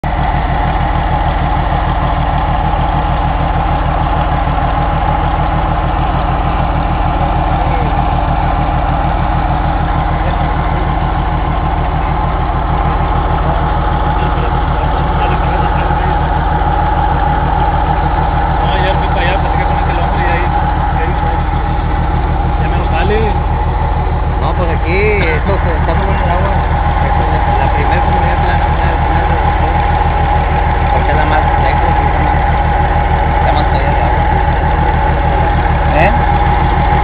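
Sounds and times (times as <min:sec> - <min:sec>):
heavy machinery engine running: 0:00.0 - 0:37.0.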